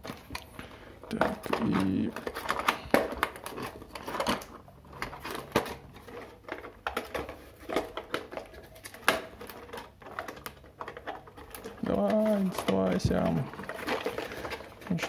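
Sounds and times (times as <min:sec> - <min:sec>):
plastic clicks and rattles: 0:01.1 - 0:15.0.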